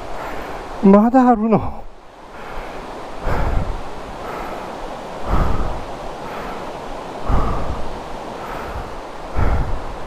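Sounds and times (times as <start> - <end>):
person breathing heavily: 0.0 - 0.8, 1.6 - 10.0
mountain stream rushing: 0.0 - 10.0.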